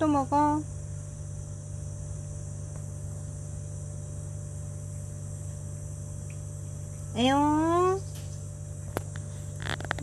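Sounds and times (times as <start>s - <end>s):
high insect drone: 0.0s - 10.0s
steady low hum: 0.0s - 10.0s.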